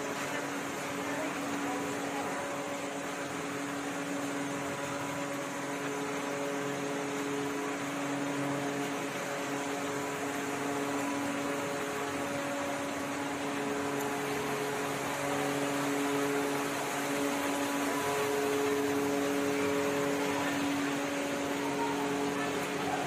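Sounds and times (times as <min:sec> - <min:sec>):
faint steady tones: 0:00.0 - 0:23.0
ventilation fans humming: 0:00.0 - 0:23.0.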